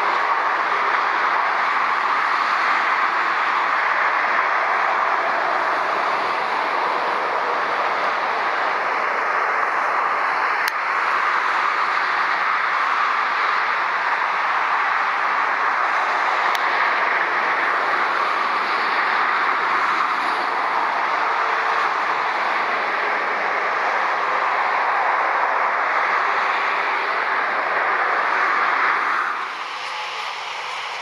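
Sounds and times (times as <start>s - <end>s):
motorway traffic roar: 0.0s - 31.0s.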